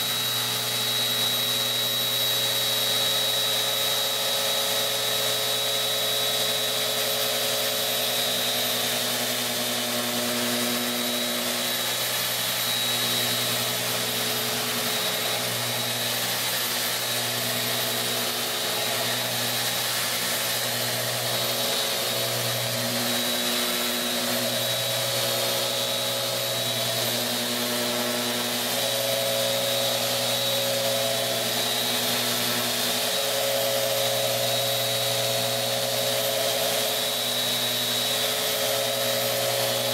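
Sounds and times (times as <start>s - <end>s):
sander sanding wood: 6.5s - 39.9s.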